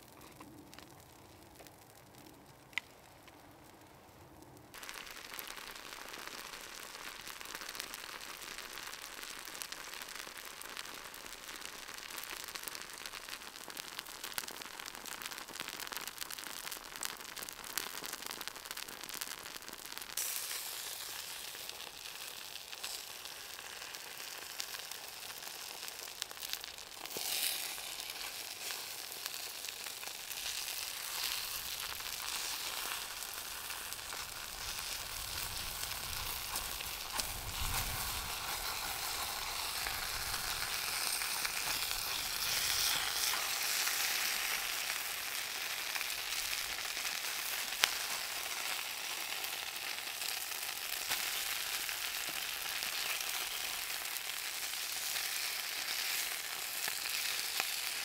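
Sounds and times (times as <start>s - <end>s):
food sizzling in a frying pan: 4.7s - 58.0s.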